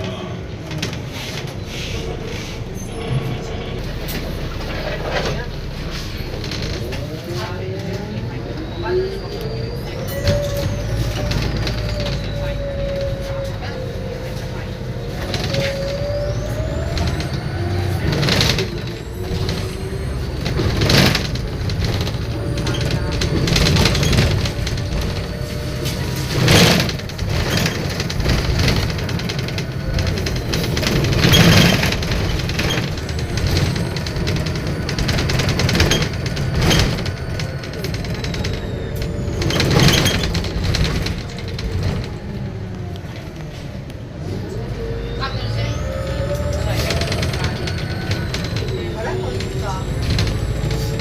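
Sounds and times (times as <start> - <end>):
diesel engine rumble: 0.0 - 51.0
gearbox whining: 0.0 - 51.0
rattly surges: 0.0 - 51.0.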